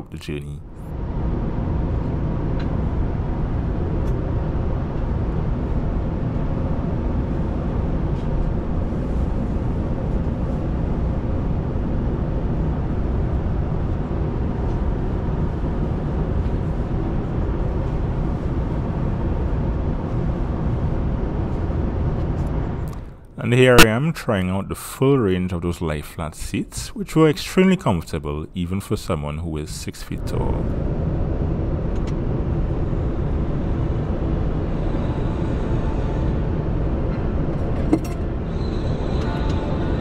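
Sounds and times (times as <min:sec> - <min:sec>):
airliner cabin airflow and engines: 0:00.0 - 0:40.0
faint steady hum: 0:00.0 - 0:40.0.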